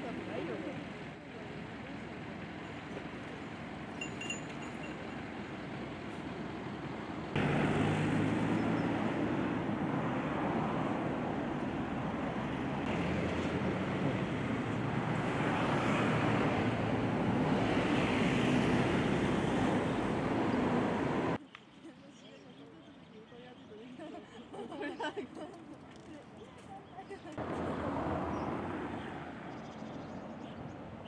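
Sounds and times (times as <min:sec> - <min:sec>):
engine and traffic rumble: 0:00.0 - 0:31.0.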